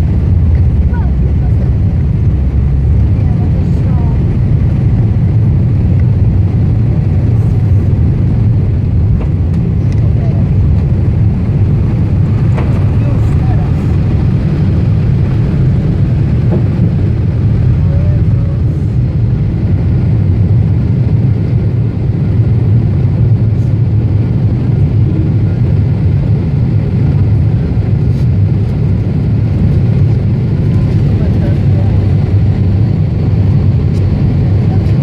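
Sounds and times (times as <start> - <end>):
jet engines and airflow in cabin: 0.0 - 35.0.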